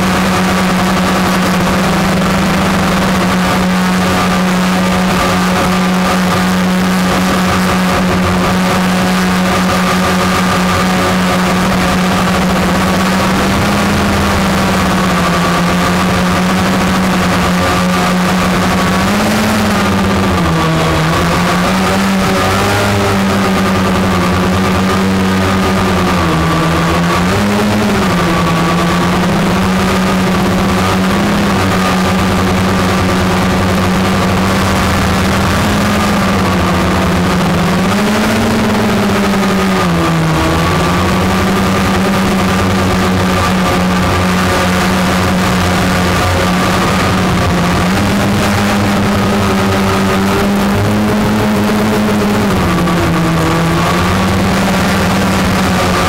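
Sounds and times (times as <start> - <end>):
drone buzzing hum: 0.0 - 56.0.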